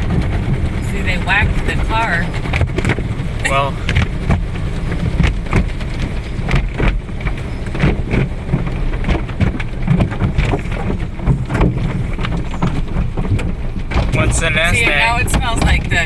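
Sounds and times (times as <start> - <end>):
low rumble: 0.0 - 16.0
water spray drumming on car: 0.0 - 16.0.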